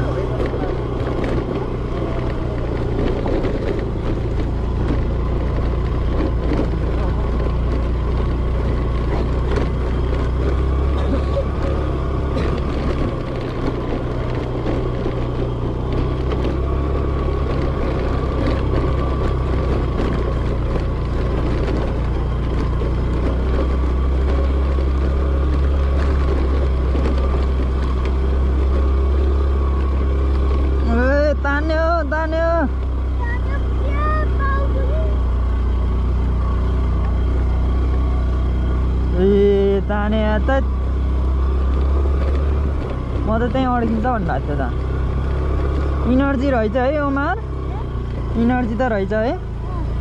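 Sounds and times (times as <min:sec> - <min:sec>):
scooter engine droning: 0:00.0 - 0:50.0.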